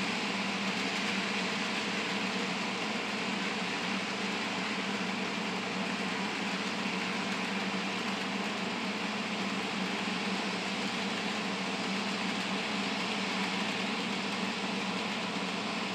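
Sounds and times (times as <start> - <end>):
model train motor humming: 0.0 - 15.9
wheels rolling on rails: 0.0 - 15.9.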